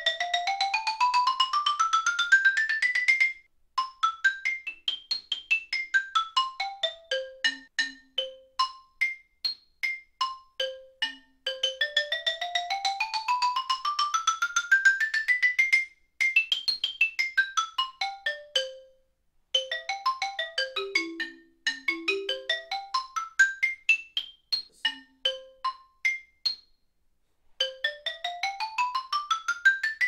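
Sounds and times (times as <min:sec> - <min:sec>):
xylophone notes with hard mallets: 0:00.0 - 0:19.0, 0:19.6 - 0:26.8, 0:27.6 - 0:30.0.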